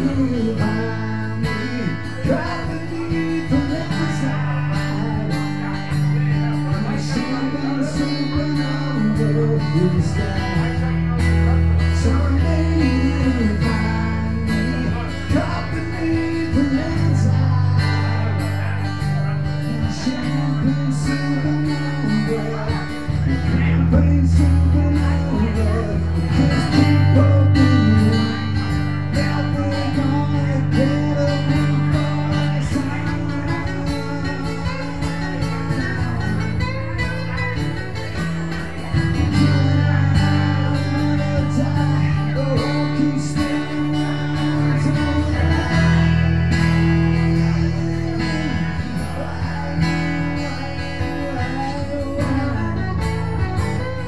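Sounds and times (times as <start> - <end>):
acoustic guitar strumming: 0.0 - 54.0
person singing: 0.0 - 54.0.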